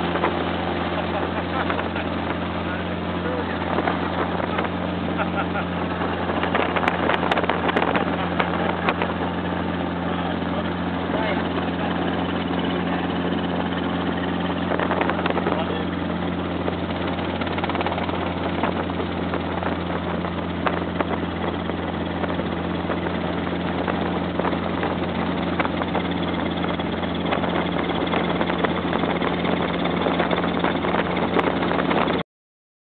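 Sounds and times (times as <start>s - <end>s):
helicopter engine and rotor drone: 0.0s - 32.2s.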